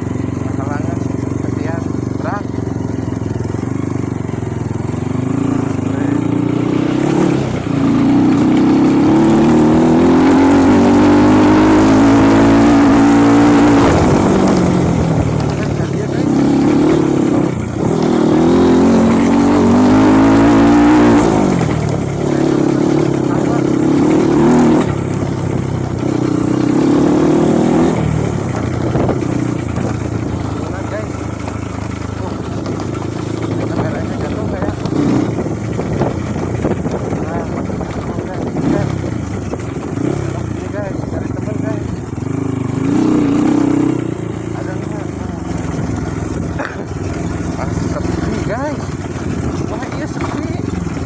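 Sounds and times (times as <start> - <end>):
trail motorcycle engine revving: 0.0 - 51.0.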